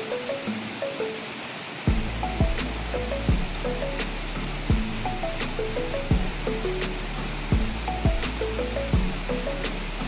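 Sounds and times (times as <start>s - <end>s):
stream water flowing: 0.0s - 10.0s
music with kick-drum beat: 1.9s - 10.0s.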